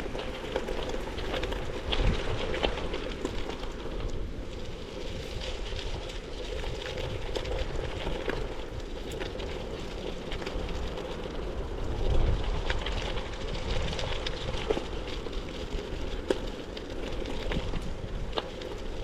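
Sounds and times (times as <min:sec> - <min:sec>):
light crackles: 0:00.0 - 0:19.0
wind rumbling on microphone: 0:00.0 - 0:19.0.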